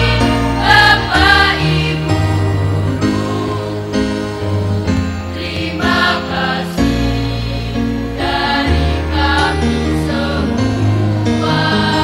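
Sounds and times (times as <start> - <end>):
children's choir singing in harmony: 0.0 - 12.0.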